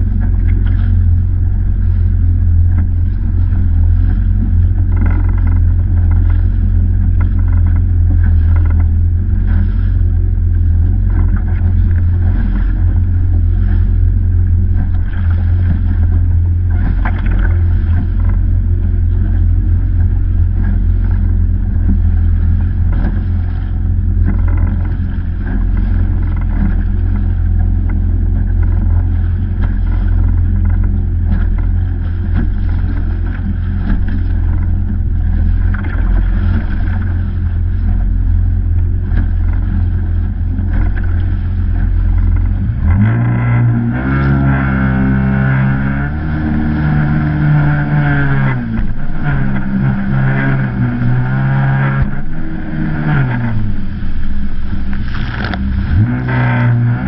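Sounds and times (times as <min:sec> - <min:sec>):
hull slapping on water: 0:00.0 - 0:57.0
jet ski engine drone: 0:00.0 - 0:57.0.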